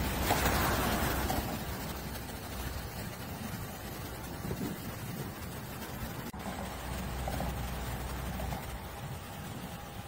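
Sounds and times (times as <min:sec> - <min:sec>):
distant jet airliner engines: 0:00.0 - 0:10.0.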